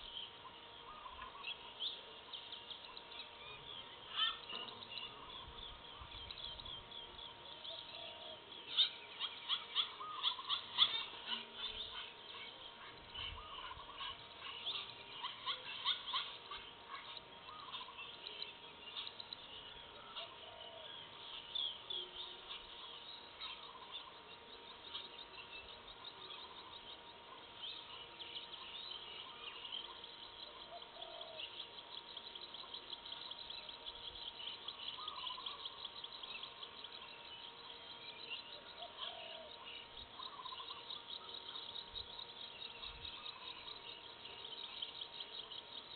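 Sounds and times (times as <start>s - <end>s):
insects trilling: 0.0s - 45.9s
small birds chirping: 0.0s - 45.9s.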